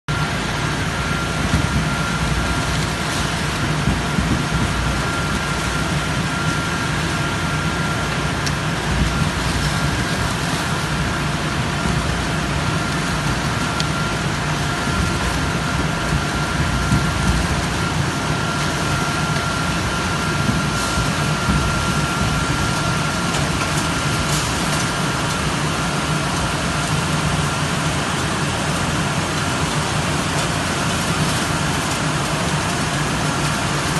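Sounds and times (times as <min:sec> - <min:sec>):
machine hum: 0:00.1 - 0:33.9
thin steady whine: 0:00.1 - 0:33.9
water spraying: 0:00.1 - 0:33.9.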